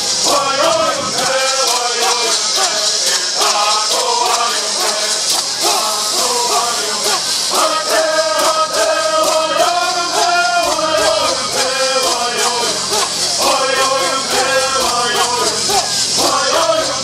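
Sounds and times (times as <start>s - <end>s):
gourd rattles shaken: 0.0s - 17.0s
men singing together: 0.0s - 17.0s.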